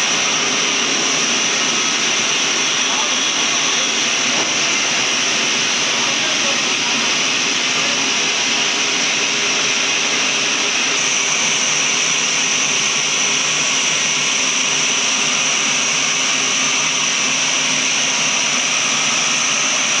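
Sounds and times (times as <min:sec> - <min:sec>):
sawmill machinery whining: 0:00.0 - 0:20.0.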